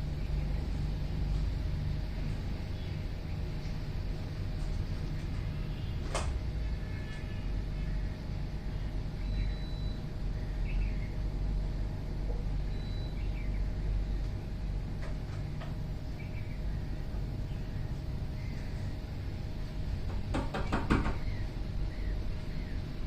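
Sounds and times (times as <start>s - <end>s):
small birds chirping: 0.0s - 1.5s, 2.1s - 6.1s, 6.9s - 14.7s, 15.4s - 20.1s, 20.8s - 23.0s.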